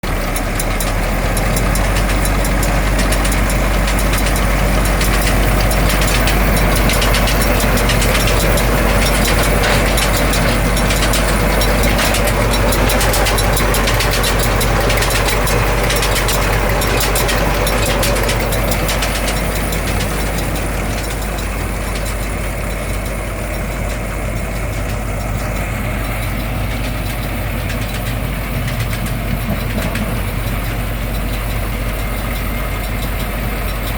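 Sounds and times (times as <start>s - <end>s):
fast mechanical clatter: 0.0s - 33.9s
tractor engine running: 0.0s - 33.9s.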